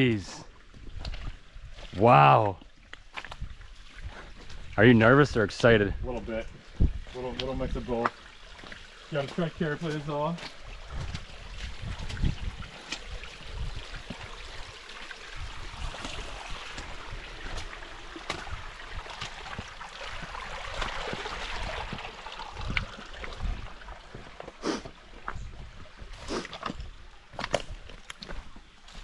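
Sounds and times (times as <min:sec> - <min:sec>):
creek water over rocks: 0:00.0 - 0:29.0.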